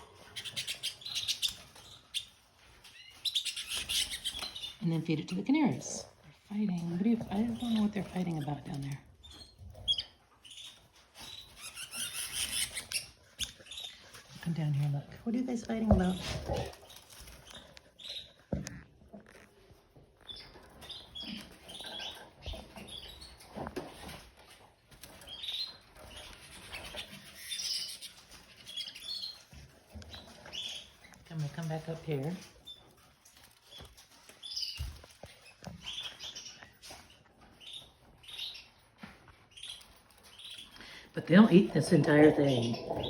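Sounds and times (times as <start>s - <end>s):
canaries chirping: 0.0s - 43.0s.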